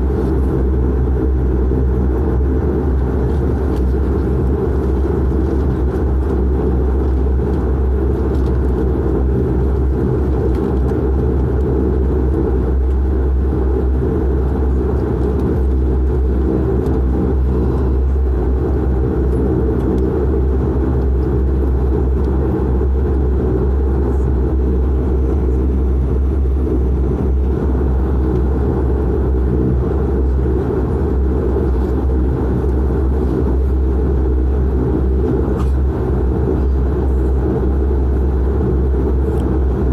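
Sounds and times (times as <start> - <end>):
deep hum: 0.0 - 39.9
turboprop engine drone: 0.0 - 39.9.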